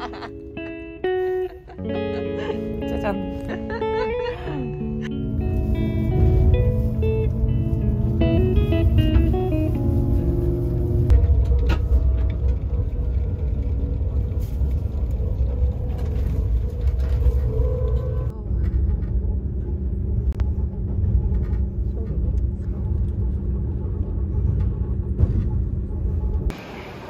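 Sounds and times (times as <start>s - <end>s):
train running rumble: 0.0s - 27.0s.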